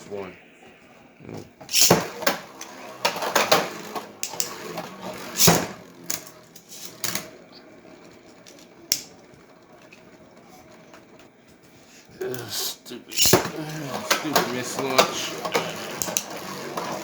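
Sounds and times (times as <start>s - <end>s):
plastic spinning tops clacking: 1.6s - 11.3s, 12.2s - 17.0s.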